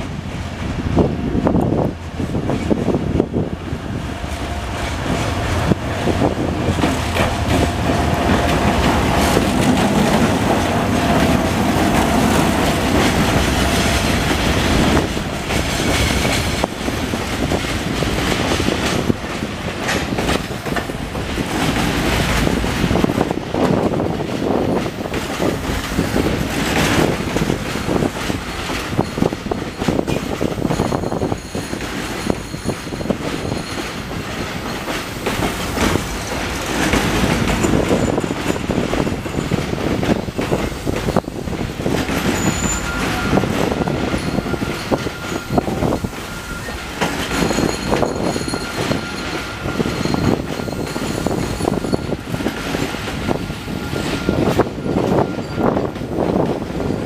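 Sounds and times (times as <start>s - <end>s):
train running gear rumble: 0.0s - 57.0s
wheels clattering over rail joints: 4.3s - 57.0s.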